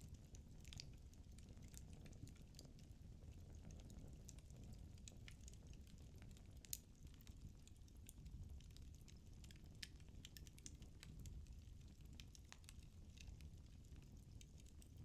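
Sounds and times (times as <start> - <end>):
fire crackling and popping: 0.0 - 15.0
low steady fire rumble: 0.0 - 15.0.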